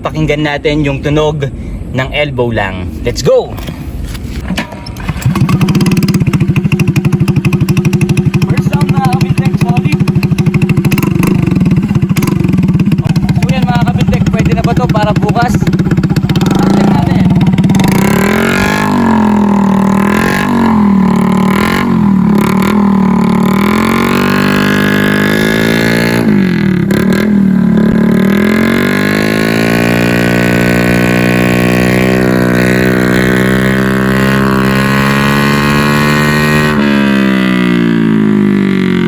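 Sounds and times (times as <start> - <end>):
motorcycle engine revving: 4.4 - 39.0.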